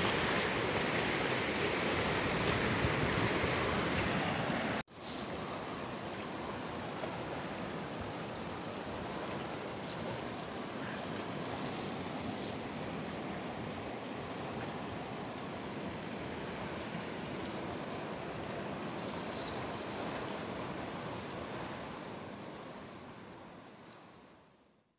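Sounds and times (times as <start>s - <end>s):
fast river rushing: 0.0s - 23.8s.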